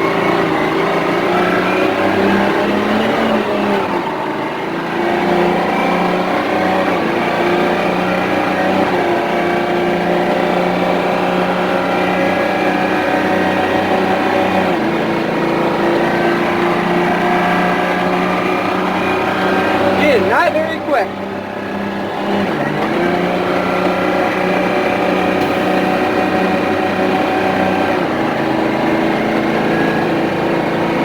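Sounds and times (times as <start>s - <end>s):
truck diesel engine accelerating: 0.0s - 31.0s.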